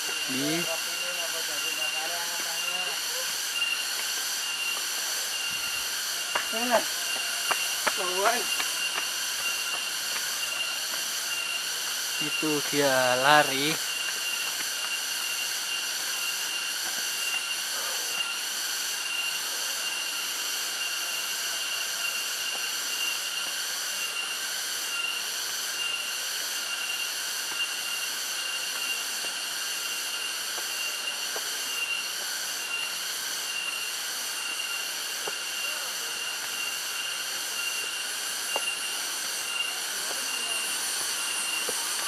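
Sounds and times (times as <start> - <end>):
insects buzzing: 0.0 - 42.0.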